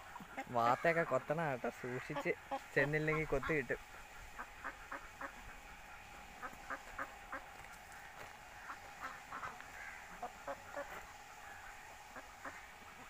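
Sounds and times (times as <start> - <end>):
ducks quacking: 0.0 - 13.0
geese honking: 0.0 - 13.0.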